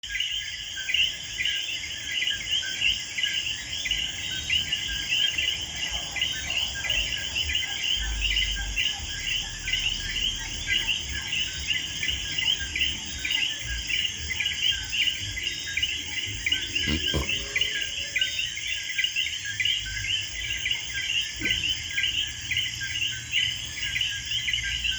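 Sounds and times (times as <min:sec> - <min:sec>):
insect drone: 0:00.0 - 0:24.9
birds chirping: 0:00.1 - 0:24.9.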